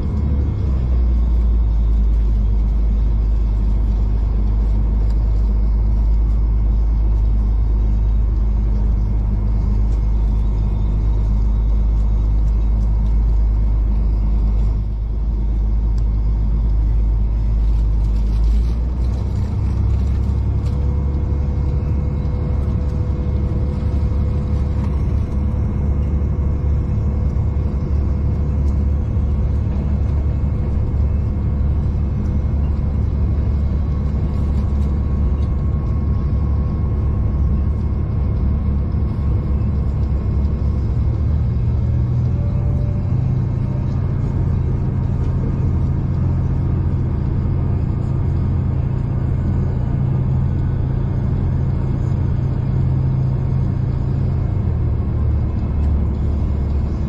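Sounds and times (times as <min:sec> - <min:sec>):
faint steady whine: 0:00.0 - 0:57.0
train rumble and engine drone: 0:00.0 - 0:57.0.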